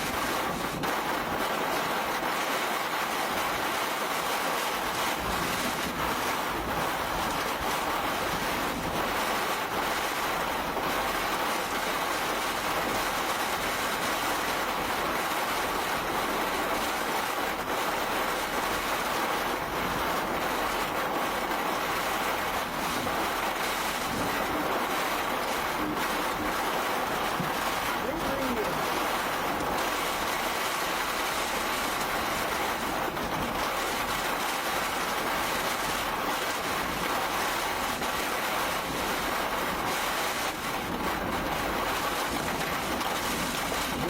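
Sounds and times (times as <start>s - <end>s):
wind and heavy rain rushing: 0.0s - 44.0s.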